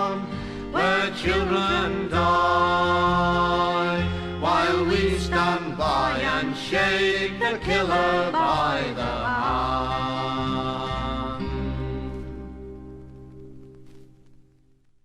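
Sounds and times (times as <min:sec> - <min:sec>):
folk group singing in harmony: 0:00.0 - 0:12.4.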